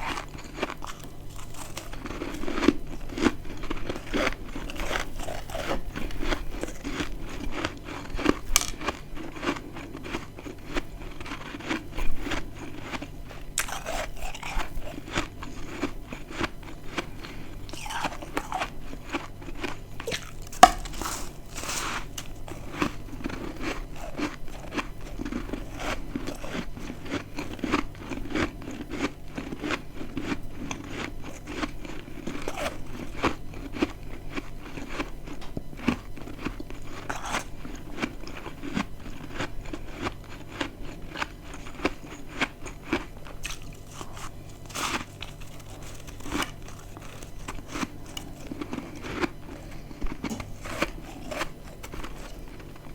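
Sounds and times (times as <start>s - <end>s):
chewing crunchy frost chunks: 0.0s - 52.9s.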